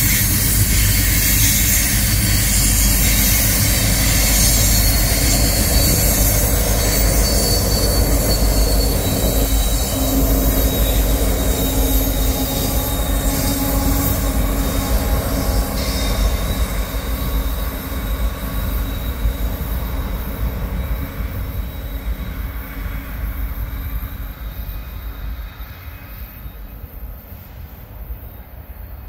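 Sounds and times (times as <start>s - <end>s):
diesel locomotives rumbling past: 0.0s - 29.0s
thin high whine: 0.0s - 29.0s.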